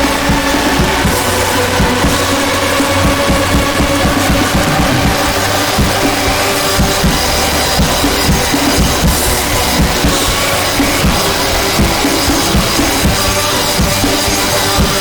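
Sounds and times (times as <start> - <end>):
busy drum kit: 0.0 - 15.0
loud dense music: 0.0 - 15.0.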